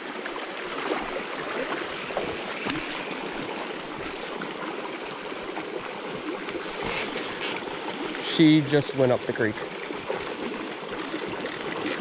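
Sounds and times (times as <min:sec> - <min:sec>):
creek water rushing over stones: 0:00.0 - 0:12.0.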